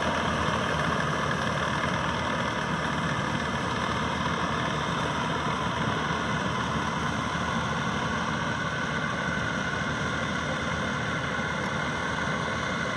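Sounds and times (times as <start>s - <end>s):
combine harvester droning: 0.0s - 12.9s.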